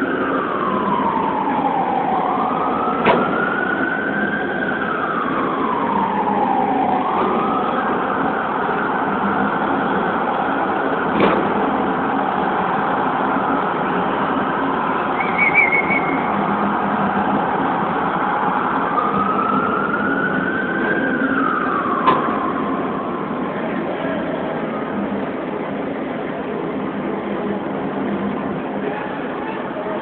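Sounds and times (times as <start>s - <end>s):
crowd noise in hall: 0.0s - 30.0s.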